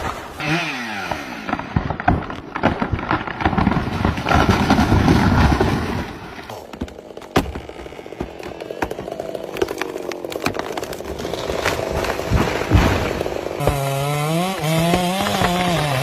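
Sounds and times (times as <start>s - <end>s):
tree wood cracking and splintering: 0.0s - 16.0s.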